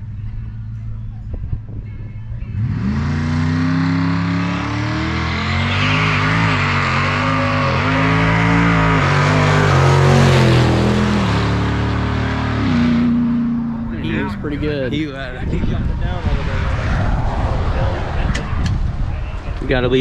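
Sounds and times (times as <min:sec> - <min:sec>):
race car engine accelerating: 0:02.5 - 0:19.2.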